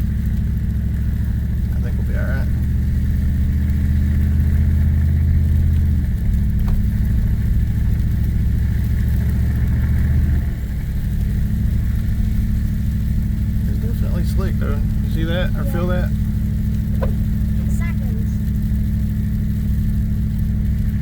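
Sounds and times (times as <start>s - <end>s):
truck engine pulling uphill: 0.0s - 21.0s.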